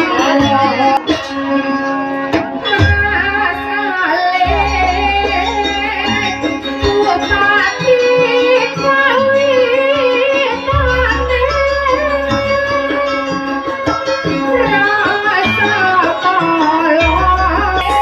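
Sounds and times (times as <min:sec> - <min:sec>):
drums: 0:00.0 - 0:18.0
wavering melody singing: 0:00.0 - 0:18.0.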